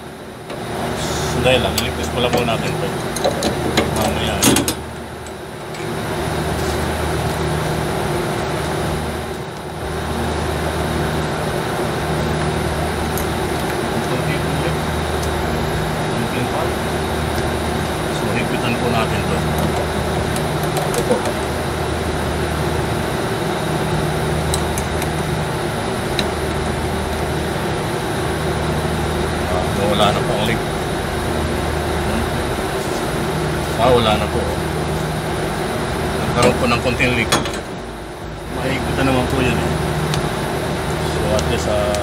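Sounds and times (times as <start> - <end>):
air conditioning unit drone: 0.0 - 42.0.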